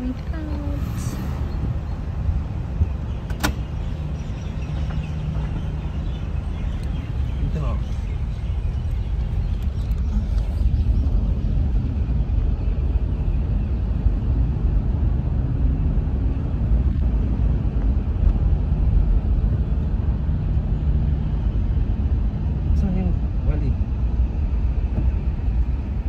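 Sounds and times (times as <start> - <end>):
car interior road and engine rumble: 0.0 - 26.0.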